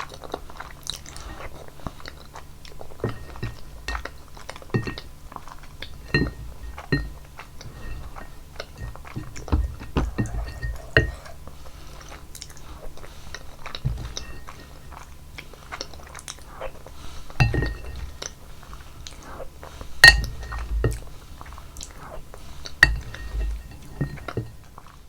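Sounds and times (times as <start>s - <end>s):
utensil clinking against dish: 0.0s - 25.0s.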